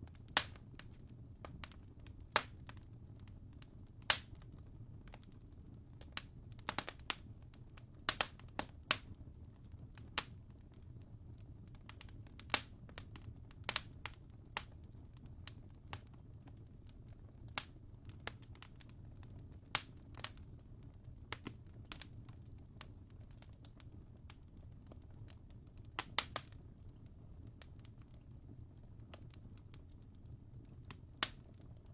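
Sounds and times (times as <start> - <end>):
fire crackling: 0.0 - 31.9.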